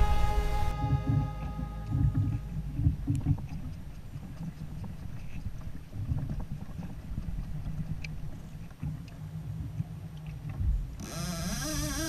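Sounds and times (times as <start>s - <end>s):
water rumble: 0.0s - 12.0s.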